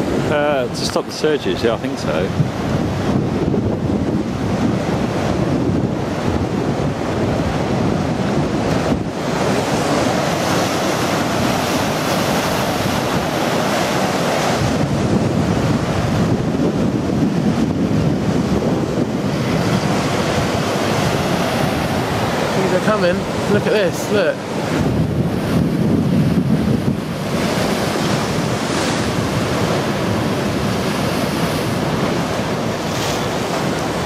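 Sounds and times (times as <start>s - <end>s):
surf breaking against sea wall: 0.0s - 34.0s
wind buffeting microphone: 0.0s - 34.0s.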